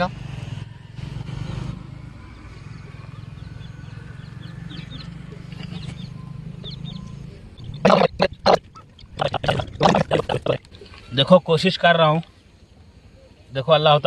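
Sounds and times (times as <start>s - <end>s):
low engine drone: 0.0s - 14.0s
faint bird chirps: 0.6s - 9.3s, 10.7s - 13.6s.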